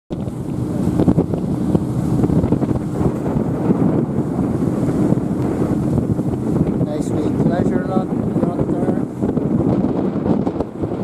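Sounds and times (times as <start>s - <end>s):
boat engine running: 0.1s - 11.0s
water washing past hull: 0.1s - 11.0s
wind buffeting microphone: 0.1s - 11.0s.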